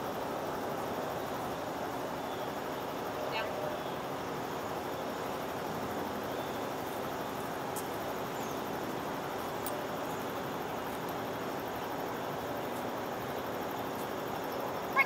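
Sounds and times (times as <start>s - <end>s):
outdoor rushing hiss: 0.0s - 15.0s.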